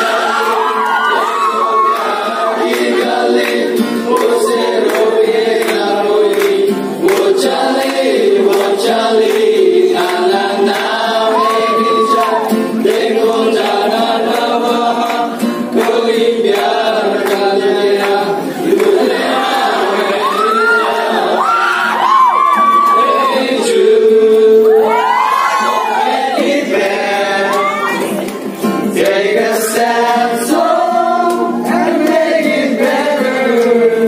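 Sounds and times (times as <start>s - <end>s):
acoustic guitar strummed: 0.0s - 34.0s
men singing together: 0.0s - 34.0s.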